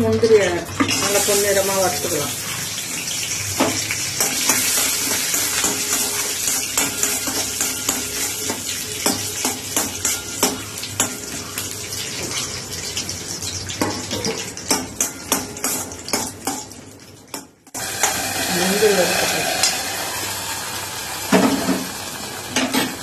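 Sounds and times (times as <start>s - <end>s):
nuts sizzling in ghee: 0.2s - 23.0s.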